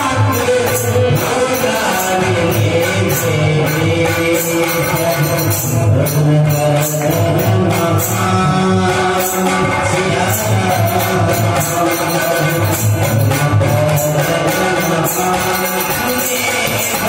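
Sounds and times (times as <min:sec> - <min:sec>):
drum beat: 0:00.0 - 0:17.0
jingling tambourine: 0:00.0 - 0:17.0.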